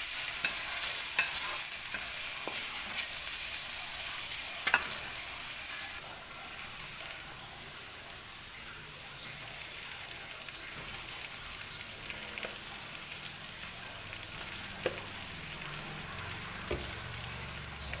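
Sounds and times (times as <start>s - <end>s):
sauce sizzling in a pan: 0.0s - 18.0s.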